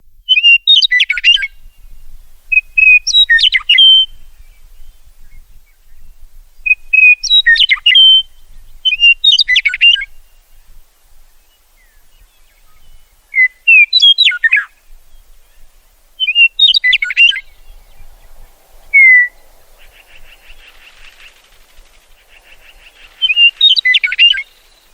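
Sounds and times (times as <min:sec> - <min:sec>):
meadowlark singing: 0:00.0 - 0:24.9.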